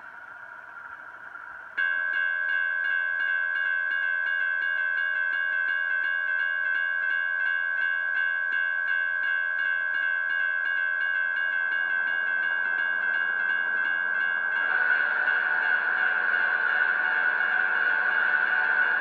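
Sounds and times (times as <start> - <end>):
railroad crossing bell ringing: 1.7 - 19.0.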